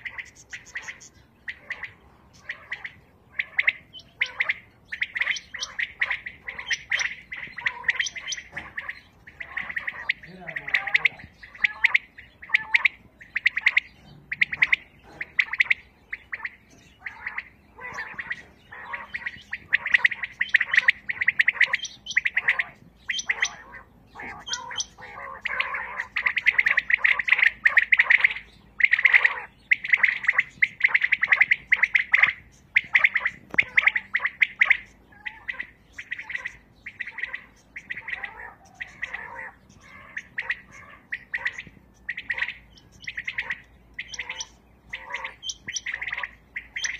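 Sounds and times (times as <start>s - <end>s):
quails chirping: 0.0s - 46.9s.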